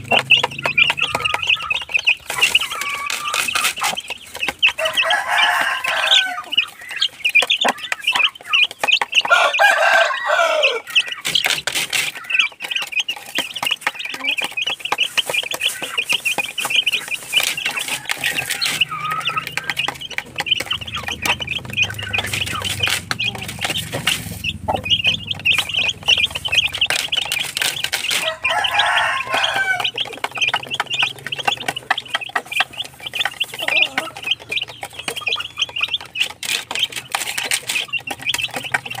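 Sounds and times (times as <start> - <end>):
hen calling: 0.0 - 11.4, 12.1 - 39.0
beaks pecking plastic feeder: 0.0 - 39.0
chicks peeping: 0.0 - 39.0.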